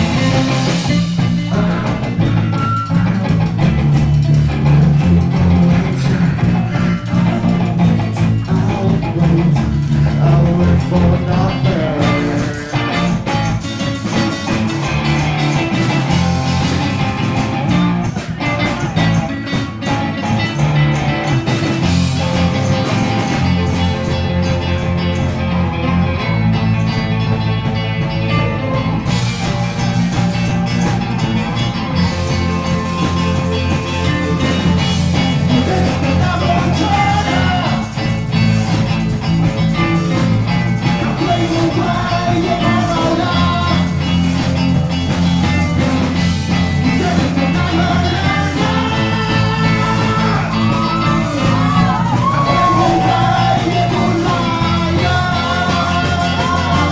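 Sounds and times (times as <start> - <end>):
electric guitar: 0.0 - 56.9
live rock band playing: 0.0 - 56.9.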